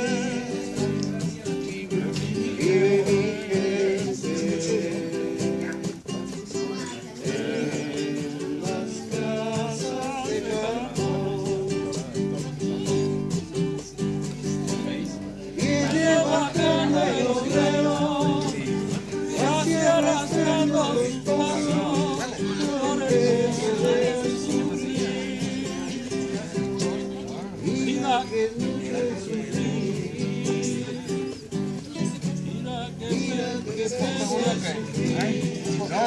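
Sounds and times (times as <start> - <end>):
person singing: 0.0 - 13.1, 15.4 - 36.0
acoustic guitar: 0.0 - 36.0.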